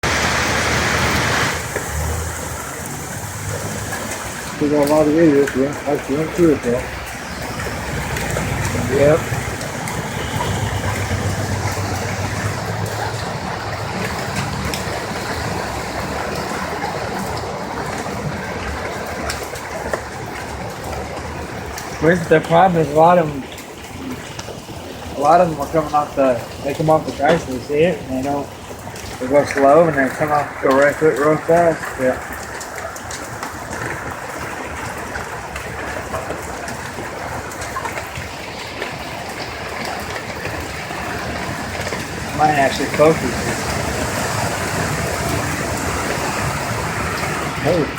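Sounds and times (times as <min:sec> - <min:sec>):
steady rain patter: 0:00.0 - 0:47.9
water rushing: 0:00.0 - 0:47.9.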